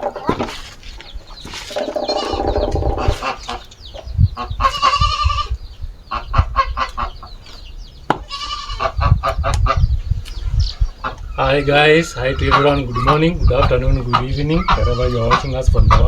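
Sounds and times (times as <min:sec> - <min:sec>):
chickens clucking and squawking: 0:00.0 - 0:16.0.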